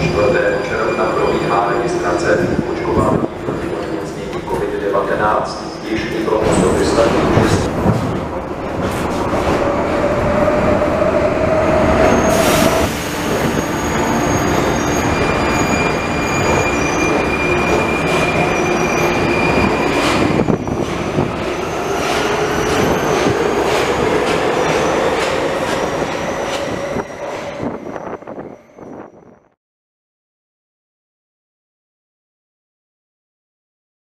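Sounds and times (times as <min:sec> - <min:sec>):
train wheels rumbling and squealing: 0:00.0 - 0:29.6.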